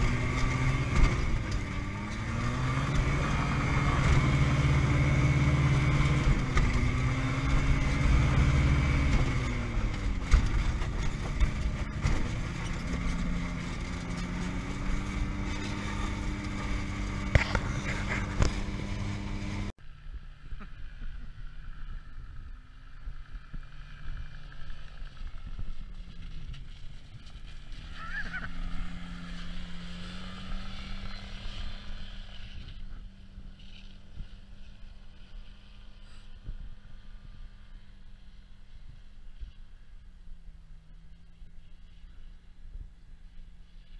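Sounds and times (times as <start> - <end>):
ultralight engine and propeller: 0.0 - 43.9.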